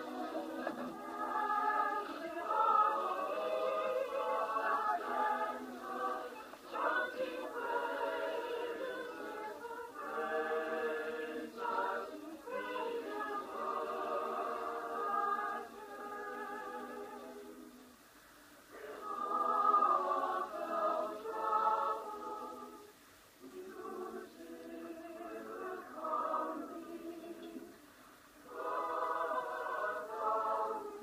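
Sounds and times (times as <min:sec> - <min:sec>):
mixed choir singing: 0:00.0 - 0:17.9, 0:18.7 - 0:27.8, 0:28.4 - 0:31.0.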